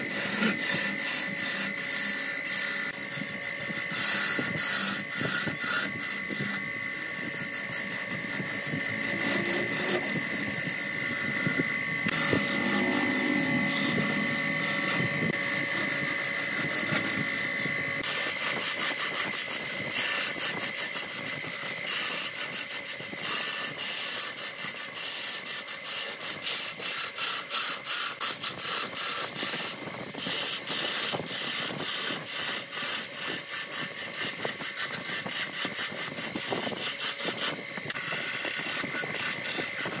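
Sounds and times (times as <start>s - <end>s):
lathe whine: 0.0s - 40.0s
tool scraping wood on lathe: 0.0s - 40.0s.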